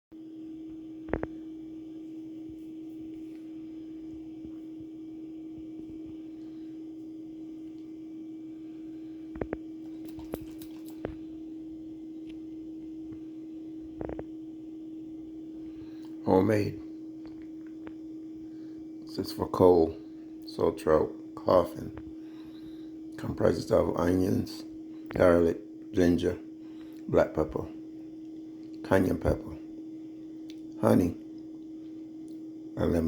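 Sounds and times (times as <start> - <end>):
steady electrical hum: 0.2 - 33.0.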